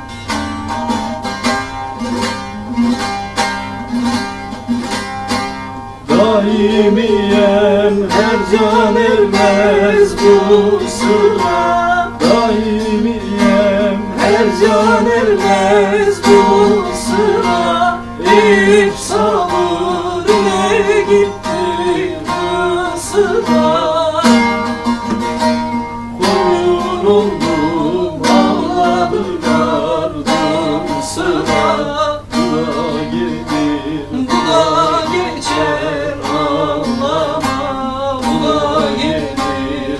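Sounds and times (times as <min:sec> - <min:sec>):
plucked string instrument: 0:00.0 - 0:39.9
ornamented singing: 0:06.0 - 0:39.9.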